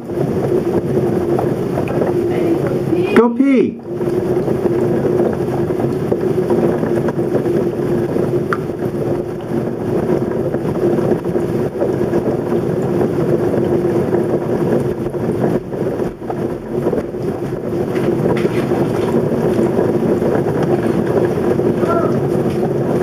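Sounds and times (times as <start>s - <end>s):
heavy rain: 0.0s - 23.0s
low hum: 0.0s - 23.0s.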